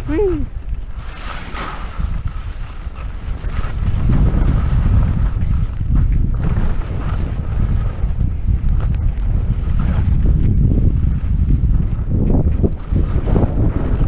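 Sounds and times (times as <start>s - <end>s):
wind buffeting microphone: 0.0s - 14.0s
skis scraping snow: 0.6s - 14.0s.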